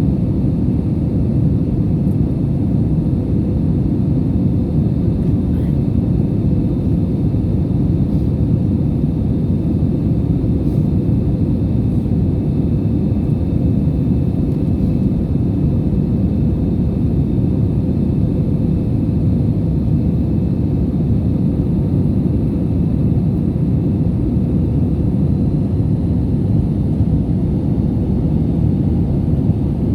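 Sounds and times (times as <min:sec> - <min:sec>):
airliner engines rumbling: 0:00.0 - 0:29.9.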